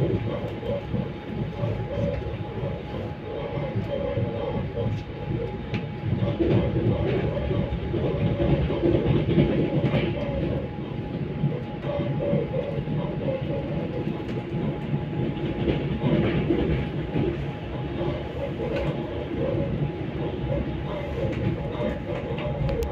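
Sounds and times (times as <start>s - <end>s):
faint steady whine: 0.0s - 22.9s
train rumble: 0.0s - 22.9s.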